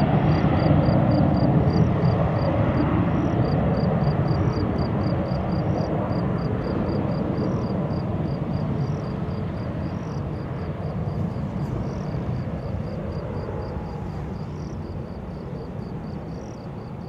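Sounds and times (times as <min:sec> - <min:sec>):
distant jet engine rumble: 0:00.0 - 0:17.0.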